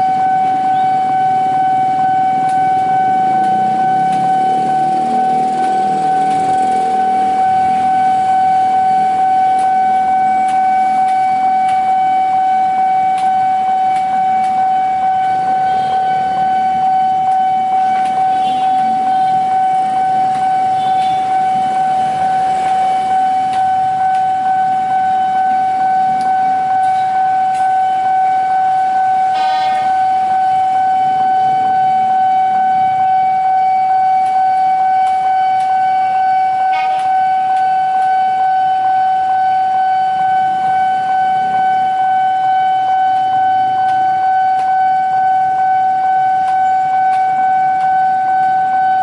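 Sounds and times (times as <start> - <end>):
level crossing alarm tone: 0.0 - 49.0.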